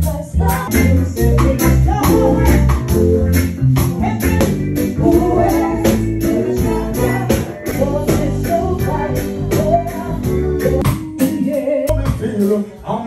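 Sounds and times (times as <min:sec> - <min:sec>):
guitar: 0:00.0 - 0:12.7
bass line: 0:00.0 - 0:13.0.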